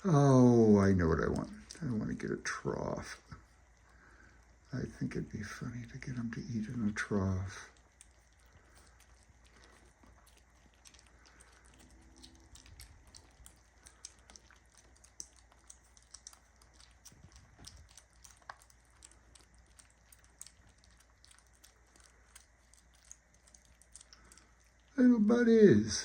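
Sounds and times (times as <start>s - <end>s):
kittens chewing and lapping: 0.0s - 25.6s.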